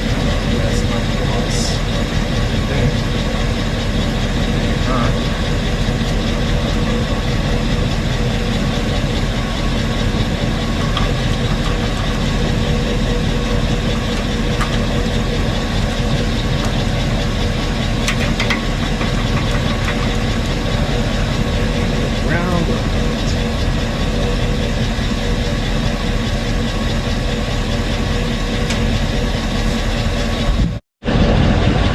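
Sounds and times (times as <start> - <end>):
engine idling: 0.0 - 31.9.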